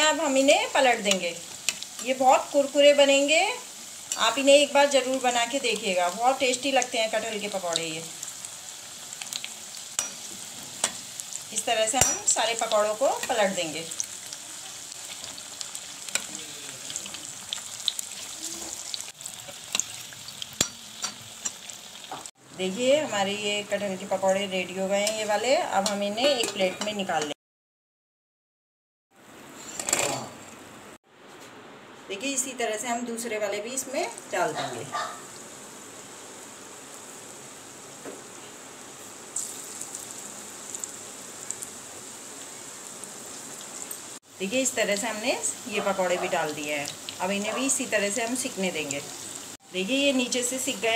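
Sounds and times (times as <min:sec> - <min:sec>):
deep-frying sizzle with crackles: 0:00.0 - 0:27.4, 0:33.2 - 0:50.9.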